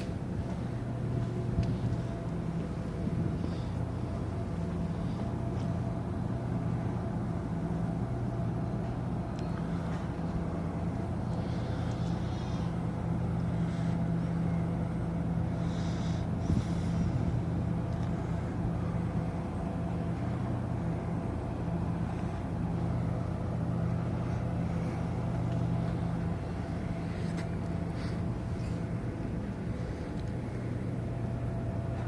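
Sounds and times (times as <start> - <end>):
ship machinery droning: 0.0 - 32.0.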